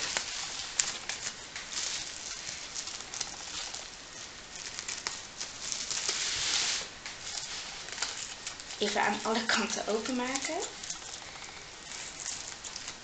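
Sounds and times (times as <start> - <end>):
scissors cutting bubble wrap: 0.0 - 13.0.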